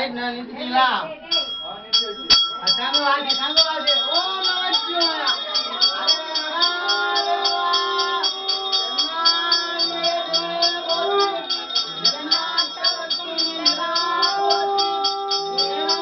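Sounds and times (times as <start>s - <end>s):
voices singing devotional chant: 0.0s - 16.0s
hand bell ringing: 1.3s - 16.0s.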